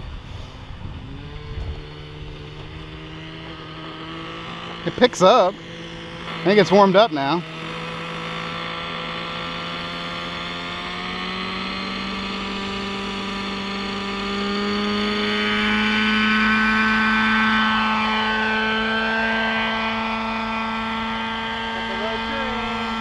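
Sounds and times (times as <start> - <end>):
model helicopter engine whine: 0.0 - 23.0.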